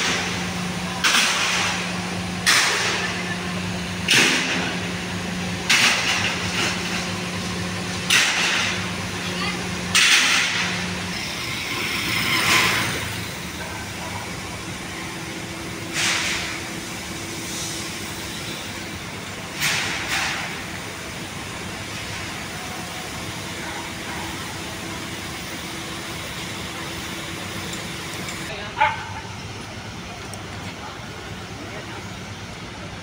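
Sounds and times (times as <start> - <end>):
heavy equipment engines: 0.0 - 33.0
traffic: 0.0 - 33.0.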